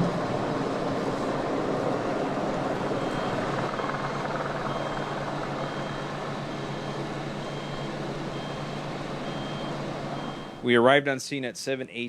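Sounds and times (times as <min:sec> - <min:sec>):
faint reversing alarm beeping: 0:00.0 - 0:10.8
heavy vehicle engine rumble: 0:00.0 - 0:10.8
outdoor noise: 0:00.0 - 0:11.0.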